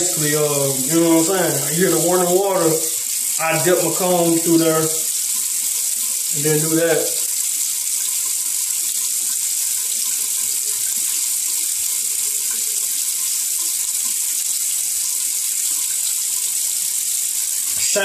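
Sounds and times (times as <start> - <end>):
tap water running: 0.0 - 18.0.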